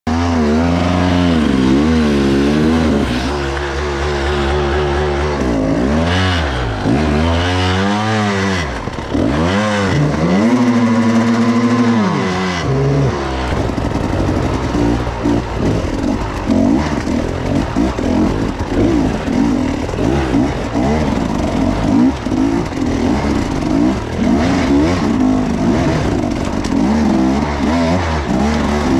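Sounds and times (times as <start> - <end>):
dirt bike engine revving: 0.1 - 28.9.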